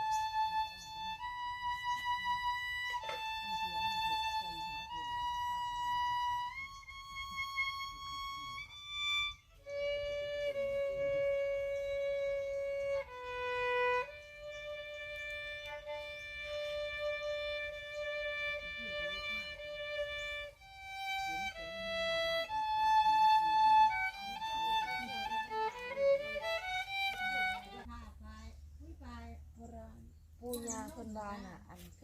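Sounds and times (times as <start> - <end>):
solo violin slow melody: 0.0 - 28.0.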